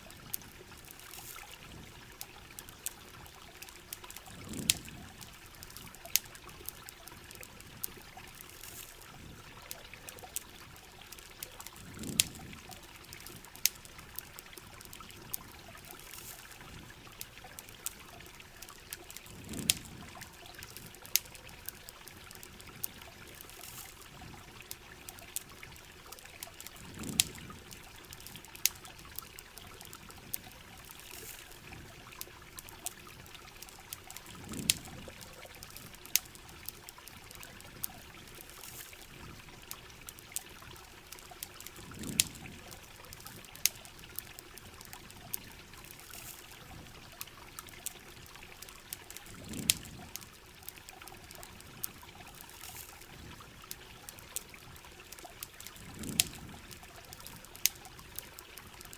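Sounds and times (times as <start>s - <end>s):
campfire crackles and pops: 0.0s - 58.9s
steady rain: 0.0s - 58.9s
trickling water: 0.0s - 58.9s.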